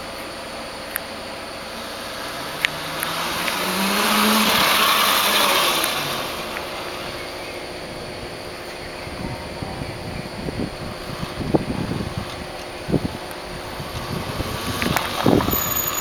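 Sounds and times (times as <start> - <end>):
road vehicle passing by: 1.3 - 16.0.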